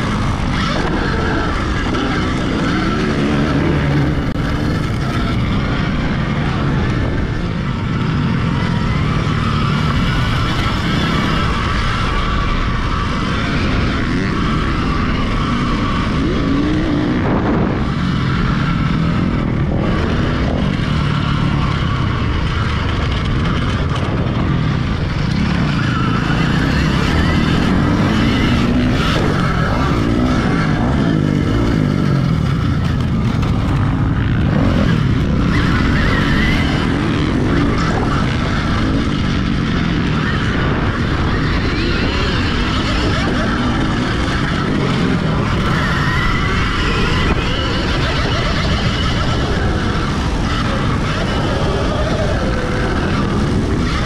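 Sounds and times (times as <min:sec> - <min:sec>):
electric motorbike motor whining: 0:00.0 - 0:54.0
wind rush: 0:00.0 - 0:54.0.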